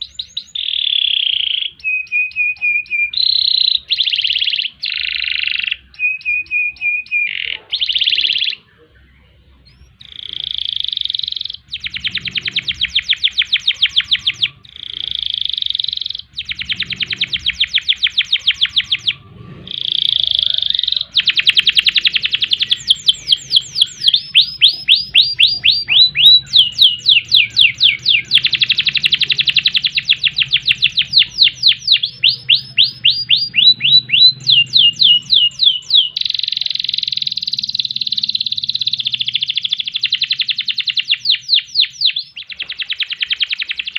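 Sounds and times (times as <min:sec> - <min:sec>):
canary singing trills: 0:00.0 - 0:43.9.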